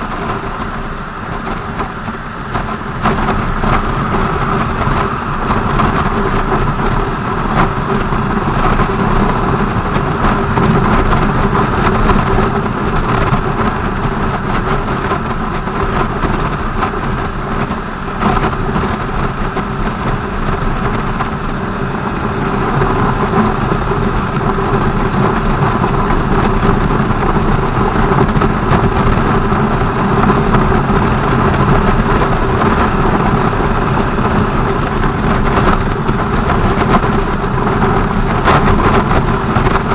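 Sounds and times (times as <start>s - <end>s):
motorcycle engine running: 0.0s - 39.9s
road noise rushing: 0.0s - 39.9s.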